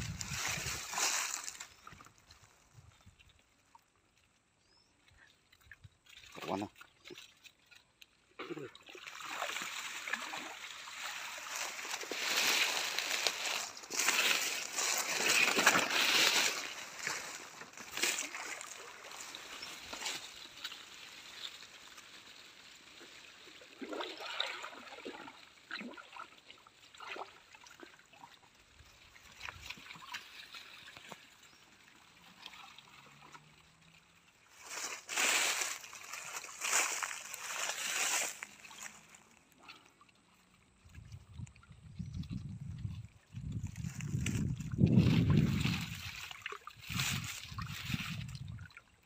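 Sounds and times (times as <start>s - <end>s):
water splashing and sloshing: 0.0s - 49.0s.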